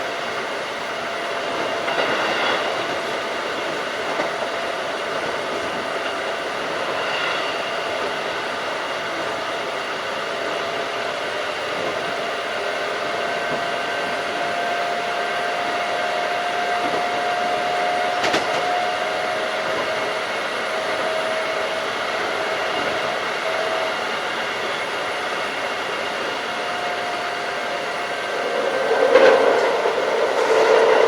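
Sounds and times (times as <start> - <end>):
electric train running: 0.0 - 31.0.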